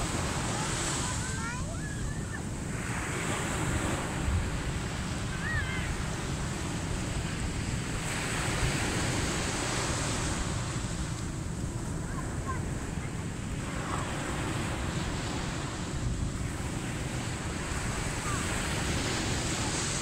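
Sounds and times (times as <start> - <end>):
ocean waves breaking on beach: 0.0 - 20.0
wind buffeting microphone: 0.0 - 20.0.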